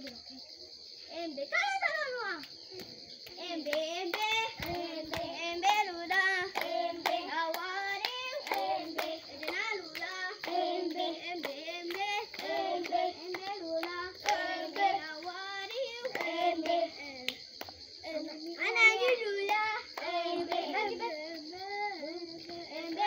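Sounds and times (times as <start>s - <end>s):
hands clapping: 2.4s - 21.4s
children chanting together: 3.3s - 17.4s, 18.0s - 23.0s.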